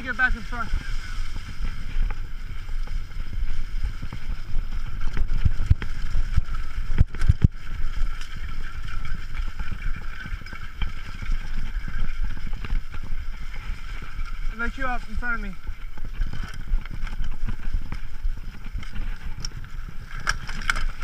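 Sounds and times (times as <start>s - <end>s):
bike rattling: 0.0s - 21.0s
bike rumbling over rough trail: 0.0s - 21.0s
wind on microphone: 0.0s - 21.0s.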